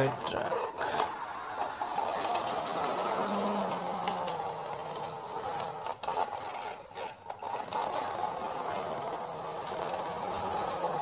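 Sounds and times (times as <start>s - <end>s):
toy truck wheels rolling on floor: 0.0s - 11.0s.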